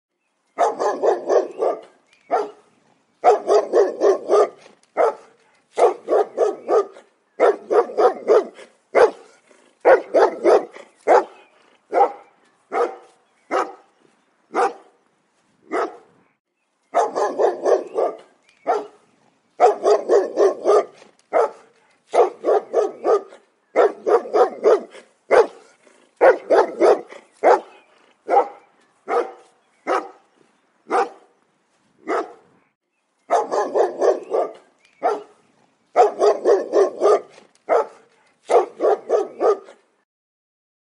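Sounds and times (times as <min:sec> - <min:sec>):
dog barking: 0:00.6 - 0:02.6, 0:03.2 - 0:13.8, 0:14.5 - 0:14.9, 0:15.7 - 0:16.1, 0:17.0 - 0:19.0, 0:19.6 - 0:30.2, 0:30.9 - 0:31.3, 0:32.0 - 0:32.4, 0:33.3 - 0:35.4, 0:36.0 - 0:39.8.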